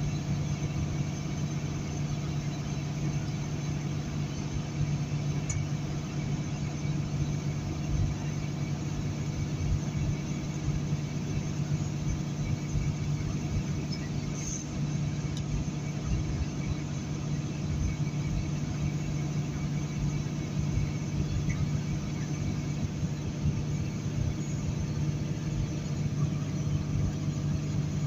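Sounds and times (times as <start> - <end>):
diesel truck engine drone: 0.0 - 28.0.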